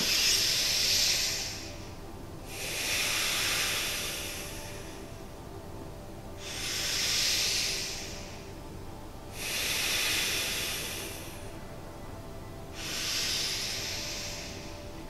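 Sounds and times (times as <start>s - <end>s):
faint ambient music with held tones: 0.0s - 15.0s
slow deep breaths: 0.0s - 15.0s.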